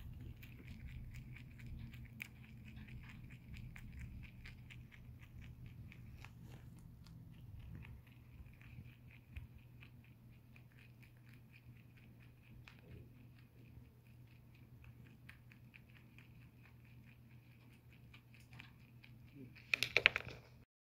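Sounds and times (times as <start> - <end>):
rabbit chewing hay: 0.0 - 20.3.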